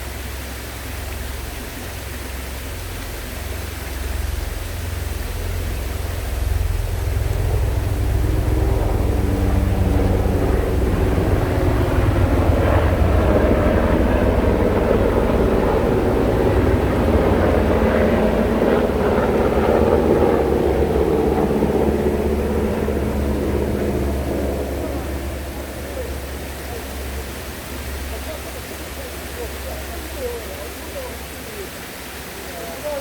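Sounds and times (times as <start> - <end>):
engine drone: 0.0 - 33.0.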